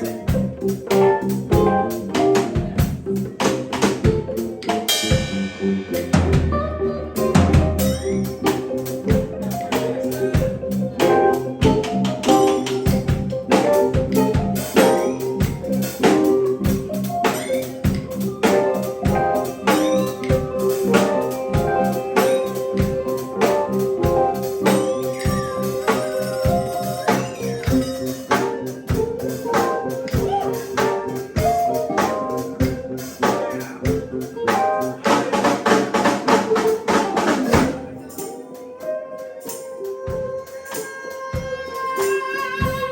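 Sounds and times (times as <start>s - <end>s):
drum kit beat: 0.0s - 42.9s
live band playing: 0.0s - 42.9s.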